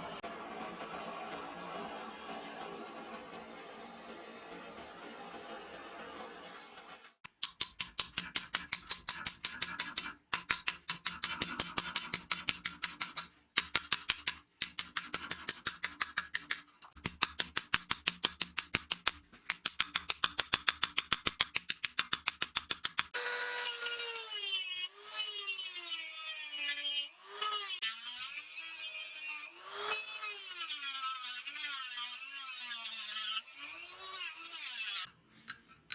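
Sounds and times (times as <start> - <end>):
hand tool back-and-forth strokes: 0.0 - 35.9.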